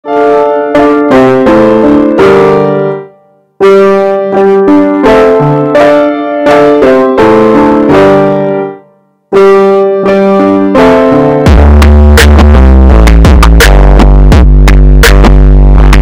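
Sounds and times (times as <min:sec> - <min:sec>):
background music chords: 0:00.1 - 0:16.0.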